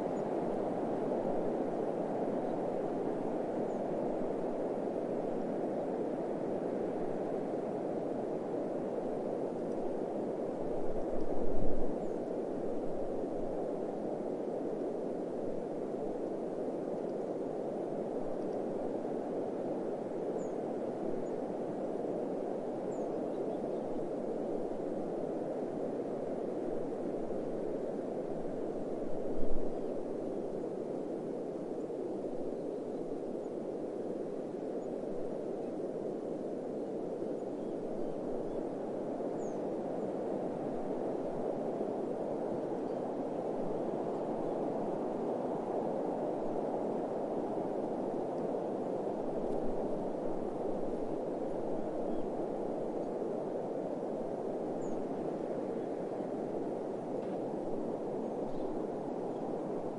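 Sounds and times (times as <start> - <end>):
rushing wind: 0.0 - 59.9.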